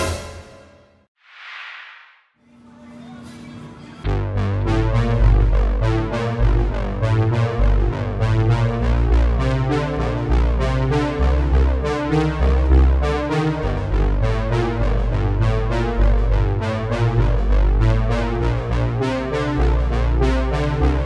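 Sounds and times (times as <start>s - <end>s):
synthesizer and electric piano: 3.0s - 21.0s
strong bass line: 4.0s - 21.0s.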